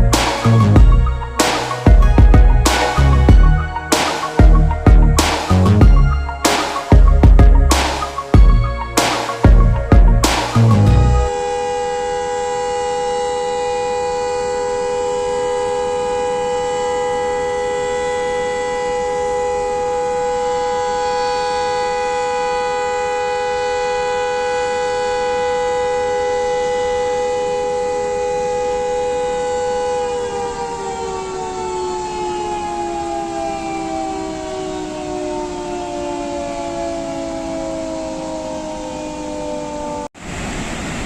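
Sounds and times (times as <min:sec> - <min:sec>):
siren long steady note: 0:00.0 - 0:41.0.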